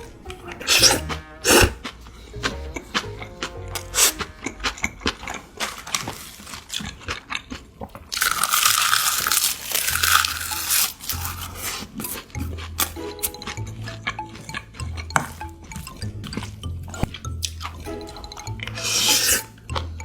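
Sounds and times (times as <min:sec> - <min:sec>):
crunching and chewing: 0:00.0 - 0:20.0.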